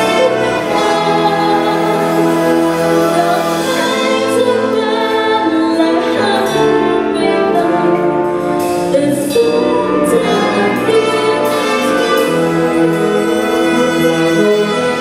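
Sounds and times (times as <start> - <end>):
woman singing: 0.0 - 12.5
concert band playing: 0.0 - 15.0.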